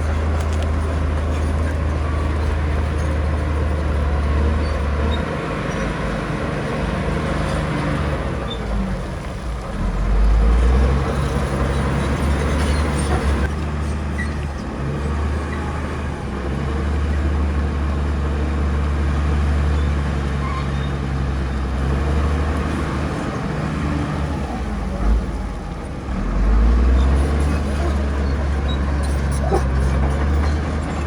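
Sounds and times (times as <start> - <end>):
heavy diesel engine drone: 0.0 - 31.0.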